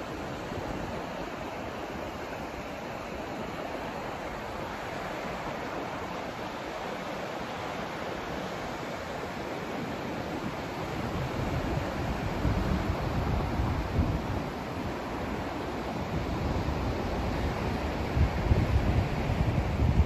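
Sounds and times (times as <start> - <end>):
white noise hiss: 0.0 - 20.0.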